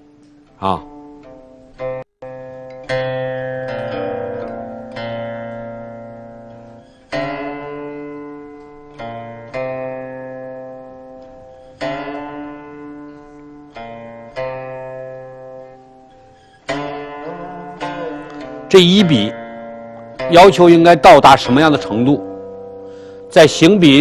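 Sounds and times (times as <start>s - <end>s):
plucked string instrument music: 0.0s - 24.0s.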